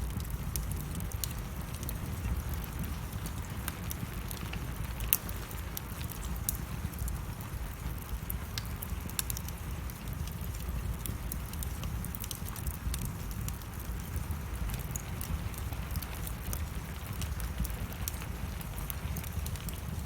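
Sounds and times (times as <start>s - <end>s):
fire low rumble: 0.0s - 20.0s
wood fire crackling: 0.0s - 20.0s.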